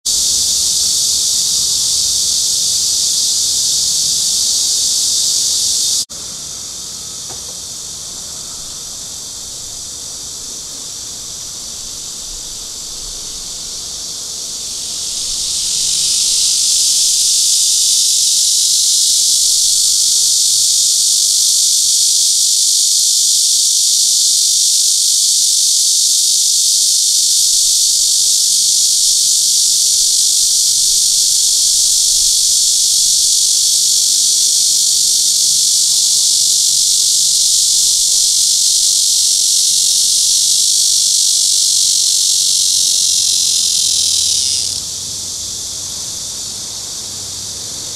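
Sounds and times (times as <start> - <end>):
cicada buzzing song: 0.0 - 47.9.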